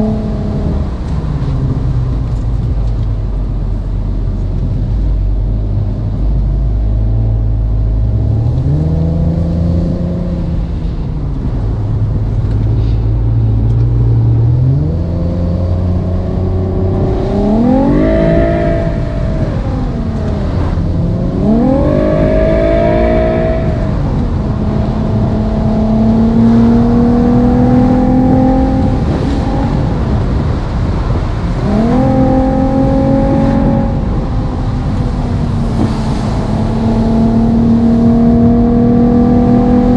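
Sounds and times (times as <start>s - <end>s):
sports car engine and exhaust: 0.0s - 39.9s.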